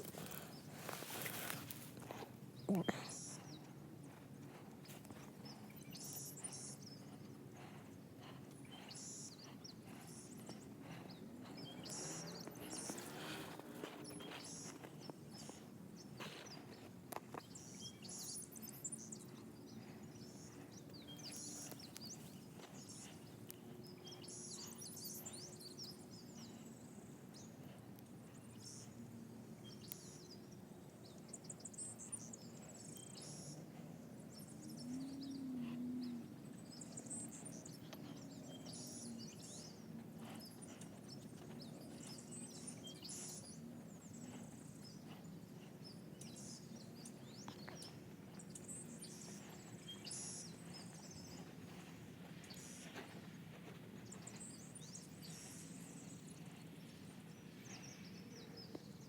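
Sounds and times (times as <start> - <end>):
low background hum: 0.0 - 59.0
songbirds chirping: 0.0 - 59.0.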